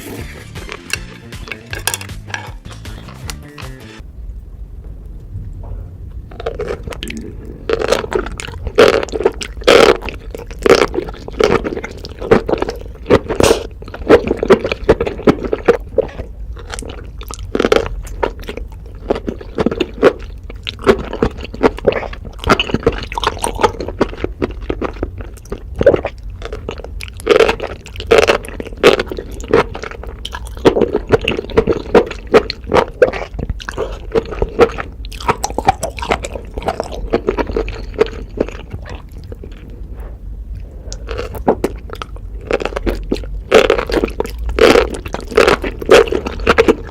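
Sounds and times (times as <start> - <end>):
close wet chewing sounds: 0.0 - 3.5, 6.1 - 46.9.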